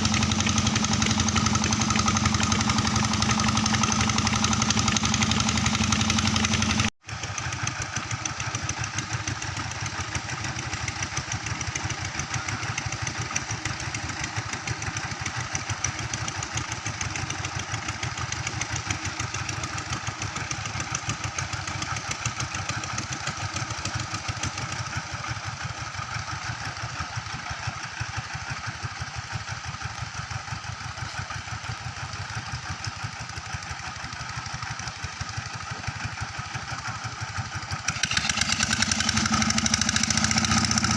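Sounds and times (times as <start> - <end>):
pump engine running: 0.0 - 40.9.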